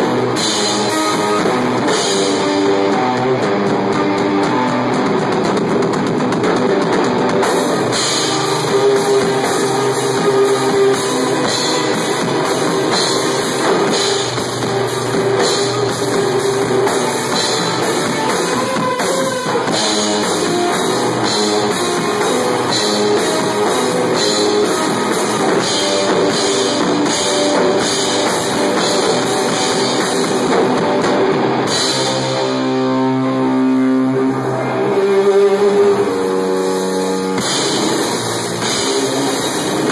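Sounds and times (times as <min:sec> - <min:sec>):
drum kit drumming: 0:00.0 - 0:39.9
electric guitar riffing: 0:00.0 - 0:39.9.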